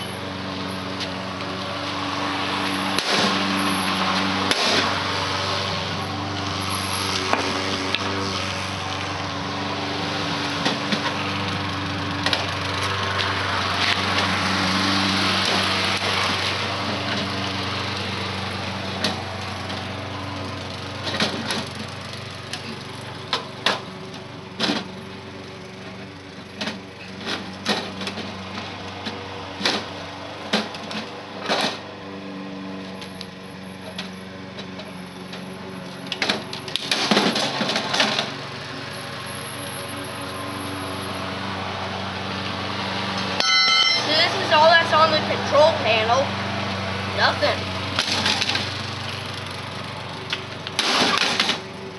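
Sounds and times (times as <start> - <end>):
engine-like drone: 0.0 - 51.9.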